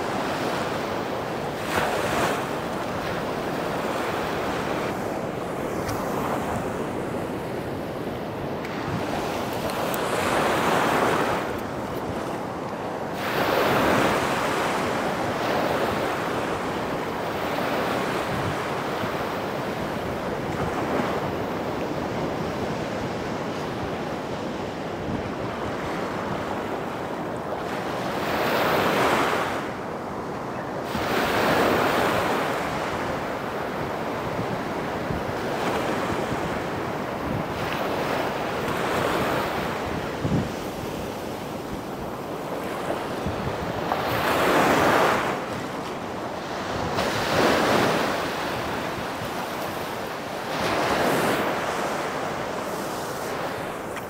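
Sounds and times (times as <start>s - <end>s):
small waves breaking on beach: 0.0s - 54.0s.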